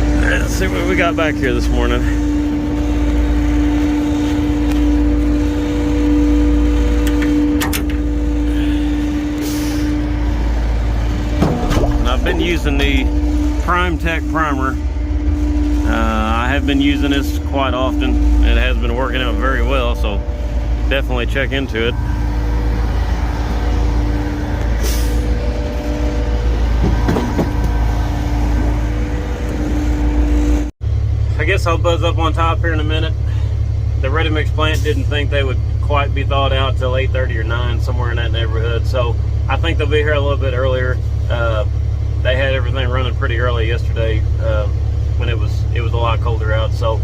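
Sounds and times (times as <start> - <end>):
diesel engine humming: 0.0 - 47.0.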